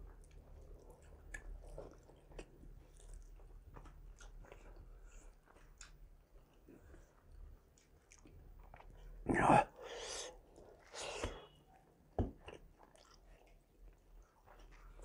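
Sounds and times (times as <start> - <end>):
wet chewing and eating by hand: 0.0 - 9.2, 10.3 - 15.0.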